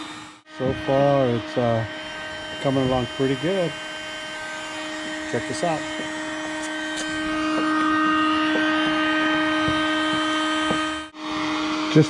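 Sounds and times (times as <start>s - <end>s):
heat gun hum and whine: 0.0s - 12.0s.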